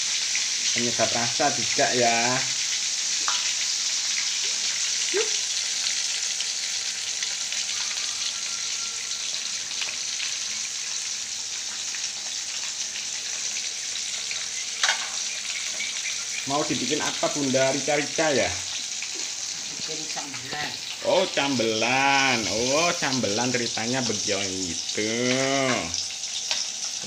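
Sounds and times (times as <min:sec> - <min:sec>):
fish sizzling in oil: 0:00.0 - 0:27.0.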